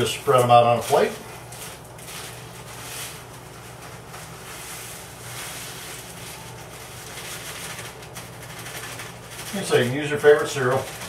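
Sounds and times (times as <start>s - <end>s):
crumbs rustling in plastic bag: 0.0s - 11.0s
low steady hum: 0.0s - 11.0s.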